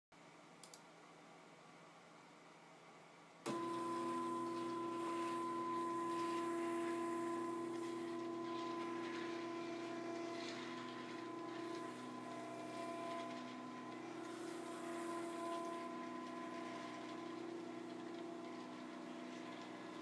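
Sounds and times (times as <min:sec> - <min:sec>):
robotic arm motors whining: 0:03.5 - 0:20.0.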